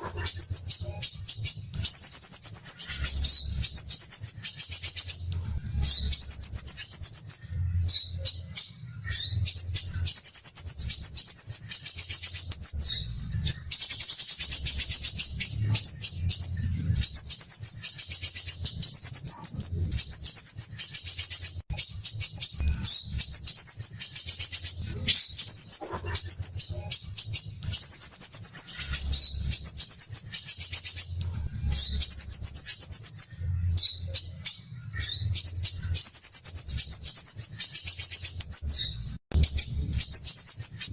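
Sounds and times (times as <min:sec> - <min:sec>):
bird singing harsh rapid trill: 0:00.0 - 0:40.9.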